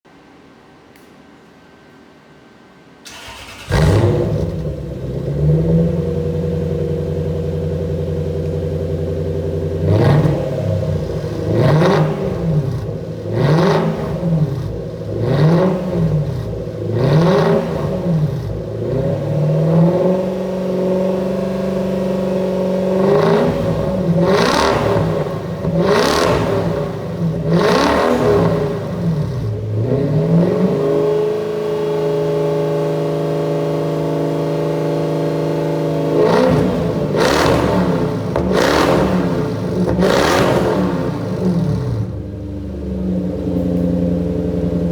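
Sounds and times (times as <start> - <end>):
car engine idling and revving: 3.1 - 44.9.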